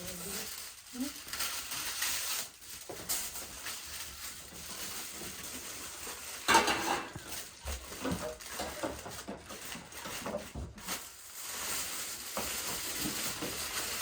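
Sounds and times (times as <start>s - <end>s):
pots and utensils clattering: 2.4s - 14.0s.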